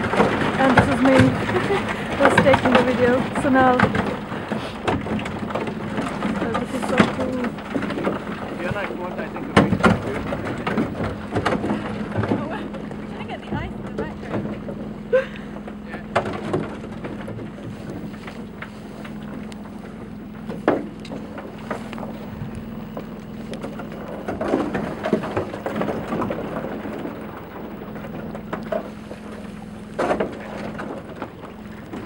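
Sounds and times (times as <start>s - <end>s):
ice knocking against hull: 0.0s - 14.9s, 15.5s - 32.0s
boat engine humming: 0.0s - 32.0s.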